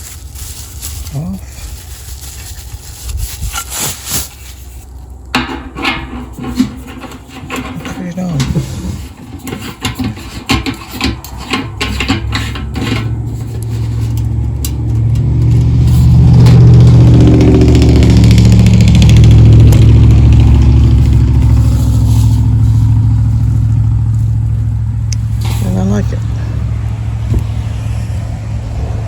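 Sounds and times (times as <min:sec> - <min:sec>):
vehicle engine running: 0:04.1 - 0:29.0.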